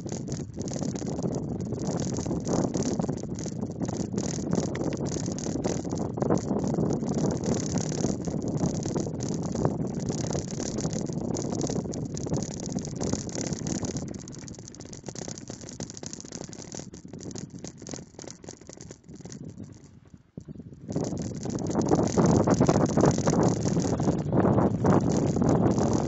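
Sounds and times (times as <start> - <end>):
bike tyre noise on dirt: 0.0 - 26.0
wind on microphone: 0.0 - 26.0.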